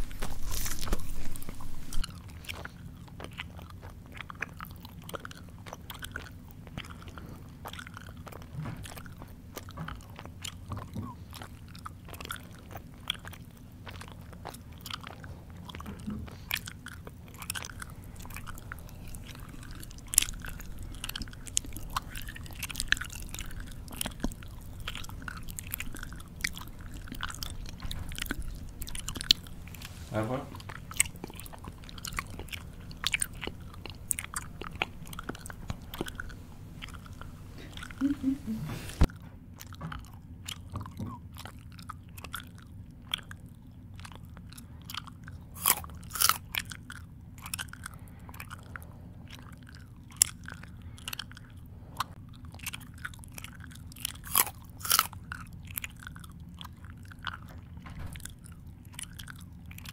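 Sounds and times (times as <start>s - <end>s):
open-mouth chewing: 0.0s - 59.9s.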